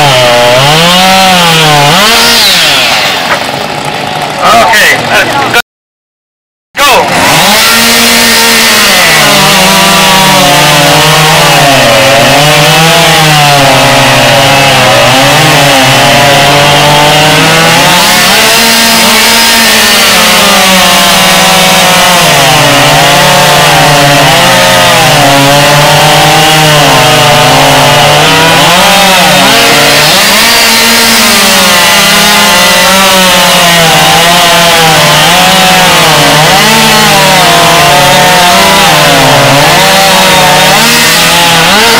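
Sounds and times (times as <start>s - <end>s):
chainsaw cutting log: 0.0s - 5.6s, 6.8s - 41.9s.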